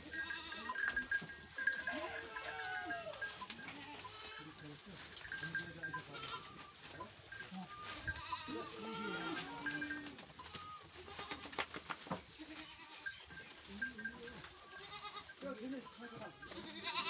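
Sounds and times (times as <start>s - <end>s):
goats bleating: 0.0s - 4.6s, 5.5s - 11.6s, 12.4s - 13.4s, 14.0s - 17.0s
leafy branches rustling: 0.0s - 17.0s.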